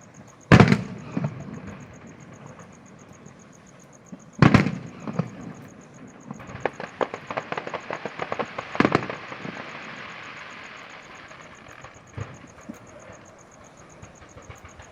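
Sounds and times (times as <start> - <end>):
fireworks bangs: 0.0 - 14.9
fireworks crackling: 0.0 - 14.9
fireworks hiss: 0.0 - 14.9.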